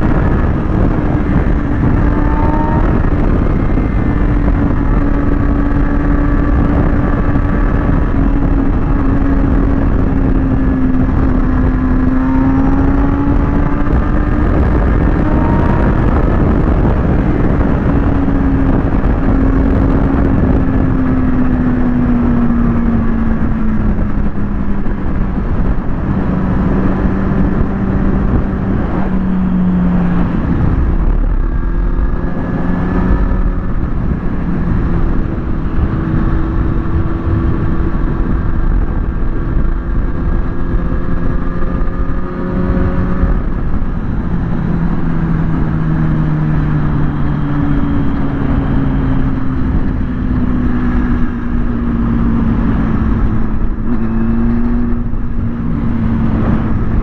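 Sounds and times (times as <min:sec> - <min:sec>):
motorcycle engine running: 0:00.0 - 0:57.0
rushing road noise: 0:00.0 - 0:57.0.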